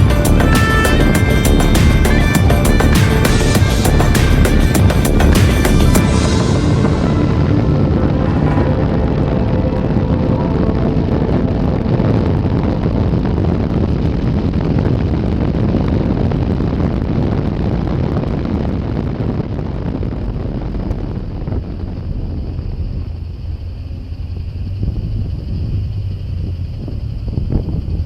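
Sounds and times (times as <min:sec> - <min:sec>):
wind rushing over microphone: 0:00.0 - 0:23.9, 0:24.5 - 0:28.0.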